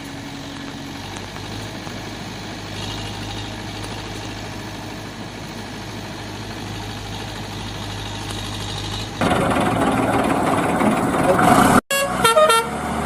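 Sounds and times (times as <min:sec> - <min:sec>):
engine idling drone: 0:00.0 - 0:11.8.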